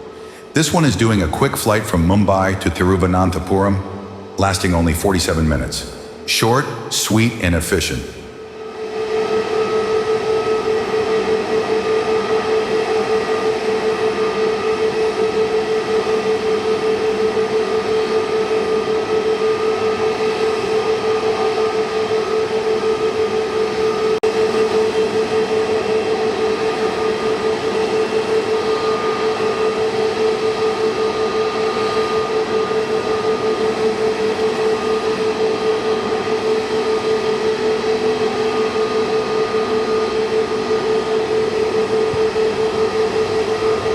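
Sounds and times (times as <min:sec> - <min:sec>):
jet engines running: 0:00.0 - 0:43.9.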